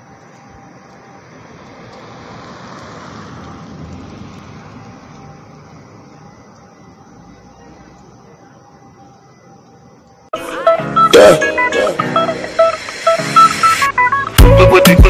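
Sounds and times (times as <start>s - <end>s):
road traffic rush: 0.0s - 14.8s.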